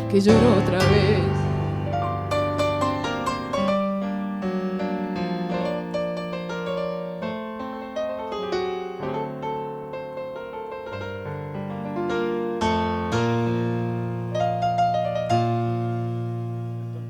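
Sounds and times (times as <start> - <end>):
piano tango melody: 0.0 - 17.0.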